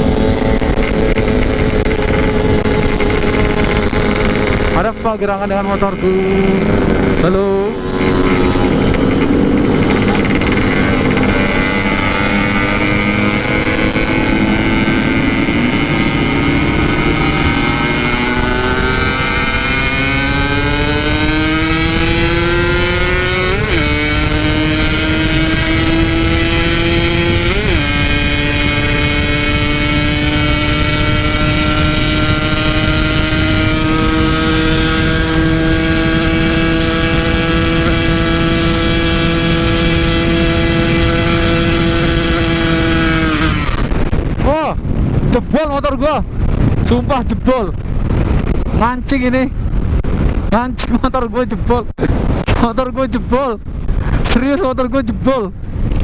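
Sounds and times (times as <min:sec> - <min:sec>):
two-stroke engine at full throttle: 0:00.0 - 0:56.0.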